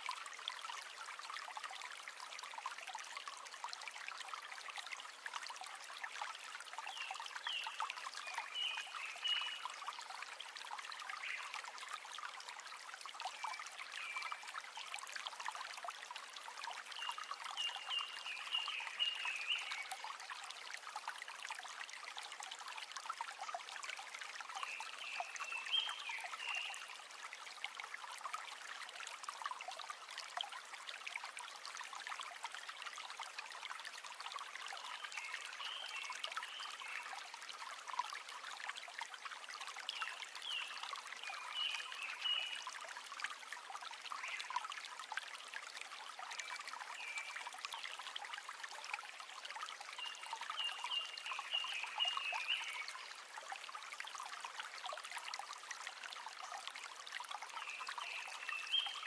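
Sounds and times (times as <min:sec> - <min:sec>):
river water trickling and babbling: 0:00.0 - 0:59.0.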